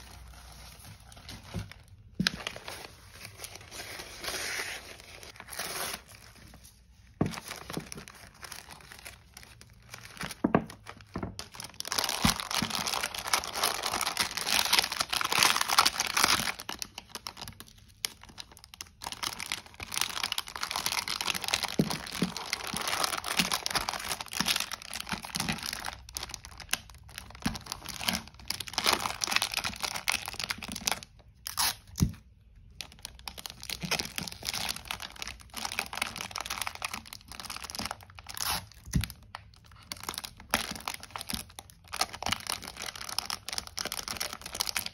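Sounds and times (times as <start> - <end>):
plastic film crinkling: 0.0 - 32.0, 32.7 - 44.9.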